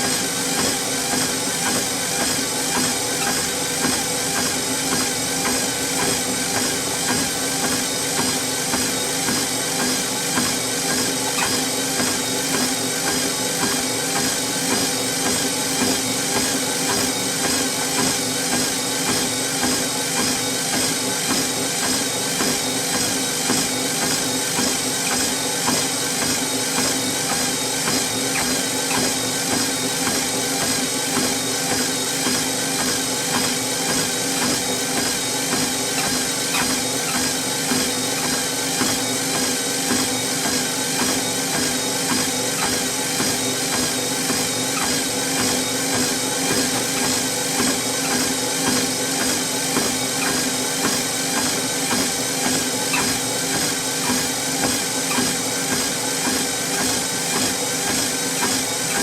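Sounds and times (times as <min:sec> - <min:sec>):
footsteps on treadmill belt: 0:00.0 - 0:59.0
treadmill motor hum and belt whir: 0:00.0 - 0:59.0.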